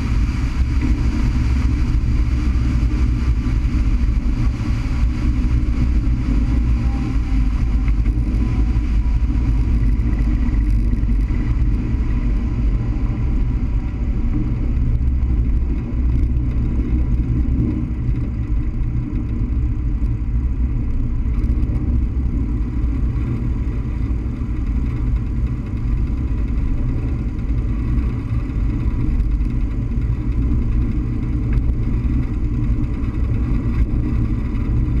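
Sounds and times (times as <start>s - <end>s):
propeller aircraft engine running: 0.0s - 35.0s
wind rumble: 0.0s - 35.0s.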